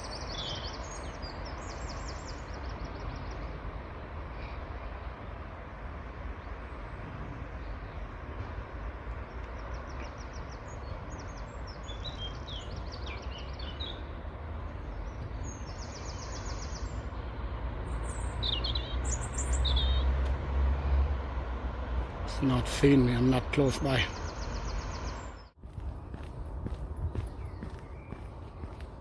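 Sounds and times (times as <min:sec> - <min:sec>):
small birds chirping: 0:00.0 - 0:05.2, 0:06.3 - 0:20.3, 0:22.2 - 0:29.0.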